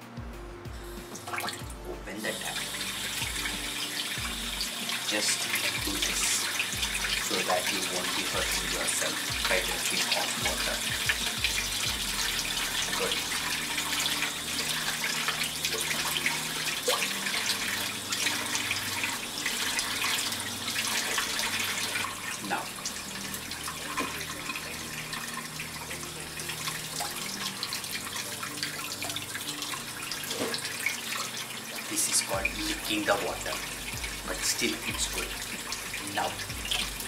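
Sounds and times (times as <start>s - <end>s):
faucet running into sink: 1.1s - 37.0s.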